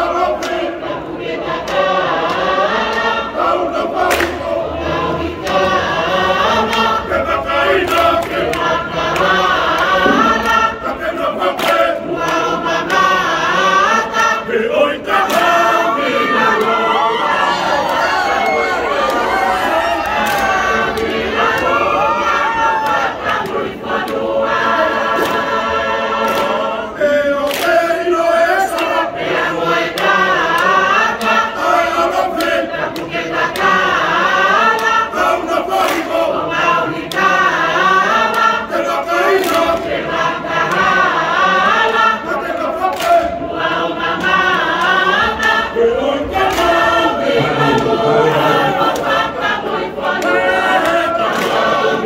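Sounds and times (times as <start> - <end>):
mixed choir singing: 0.0 - 52.0.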